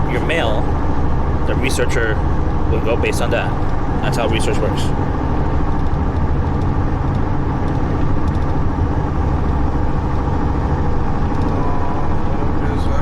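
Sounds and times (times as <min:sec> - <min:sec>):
low motor vehicle rumble: 0:00.0 - 0:13.0.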